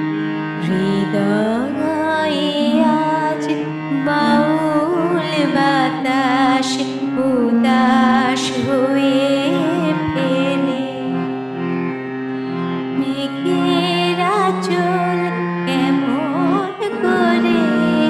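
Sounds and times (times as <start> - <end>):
harmonium chords: 0.0 - 18.0.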